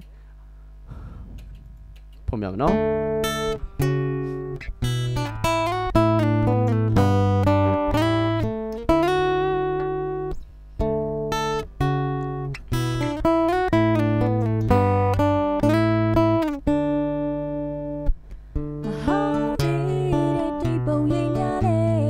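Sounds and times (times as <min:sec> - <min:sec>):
guitar notes and chords: 0:01.4 - 0:22.0.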